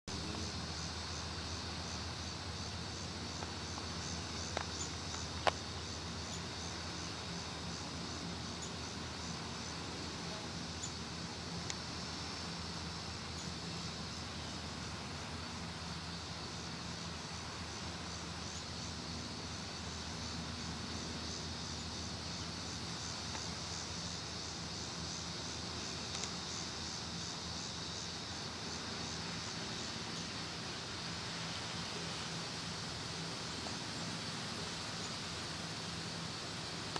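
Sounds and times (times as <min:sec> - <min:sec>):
insects chirping: 0:00.1 - 0:36.9
low steady hum: 0:00.1 - 0:36.9.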